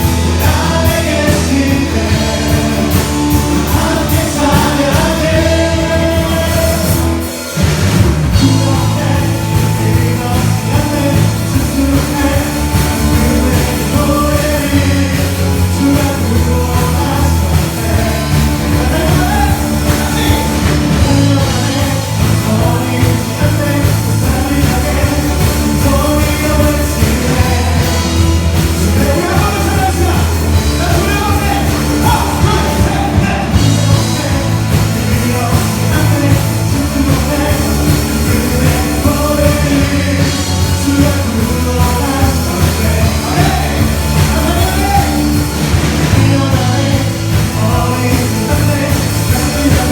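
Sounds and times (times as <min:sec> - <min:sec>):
full band playing: 0:00.0 - 0:49.9
group singing worship song: 0:00.0 - 0:49.9
steady bass line: 0:00.0 - 0:49.9.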